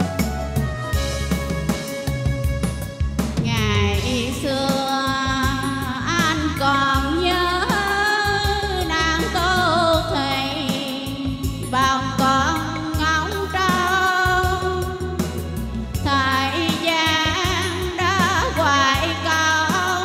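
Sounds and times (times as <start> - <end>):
instrumental accompaniment: 0.0 - 20.0
woman singing into a microphone: 3.4 - 20.0.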